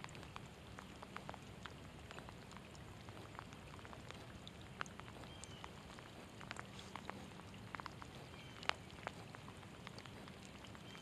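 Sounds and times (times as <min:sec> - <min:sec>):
light rain patter: 0:00.0 - 0:11.0.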